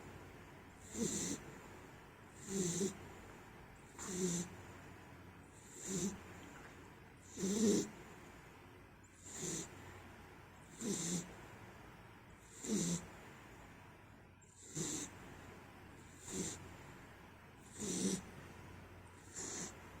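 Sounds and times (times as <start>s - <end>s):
pet snoring: 0.8s - 8.4s, 9.1s - 10.0s, 10.6s - 11.4s, 12.4s - 13.6s, 14.5s - 20.0s.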